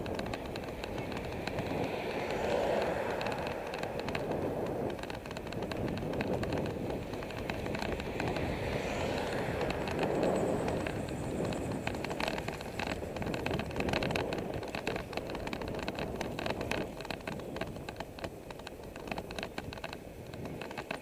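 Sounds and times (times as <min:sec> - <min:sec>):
bicycle clicks and rattles: 0:00.0 - 0:21.0
bicycle tyre noise: 0:00.0 - 0:21.0
wind on microphone: 0:00.0 - 0:21.0.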